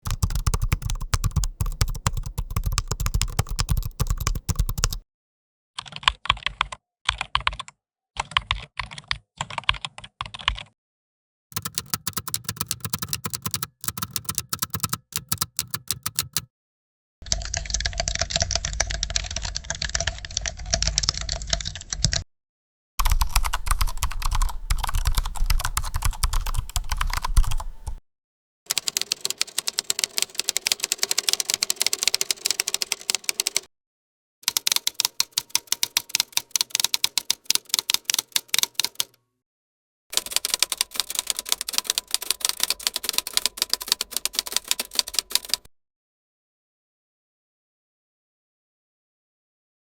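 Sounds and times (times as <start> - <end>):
fast keyboard typing: 0.0 - 5.0, 5.8 - 10.8, 11.5 - 16.5, 17.2 - 22.2, 23.0 - 28.0, 28.7 - 33.7, 34.4 - 39.2, 40.1 - 45.7.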